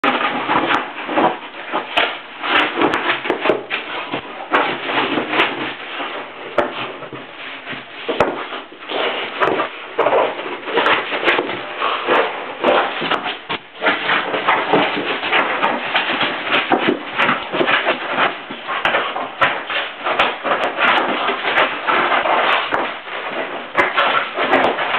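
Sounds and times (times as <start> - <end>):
balloon rubbing and bumping: 0.0 - 24.9.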